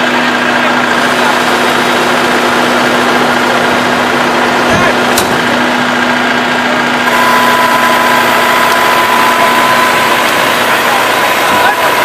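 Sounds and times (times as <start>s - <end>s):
combine harvester running: 0.0s - 12.0s
steady high whine: 0.0s - 12.0s.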